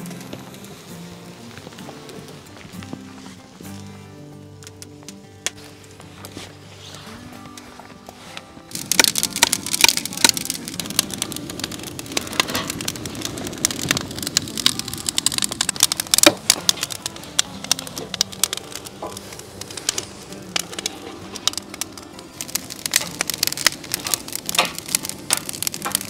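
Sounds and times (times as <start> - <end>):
twigs crackling in fire: 0.0 - 26.0.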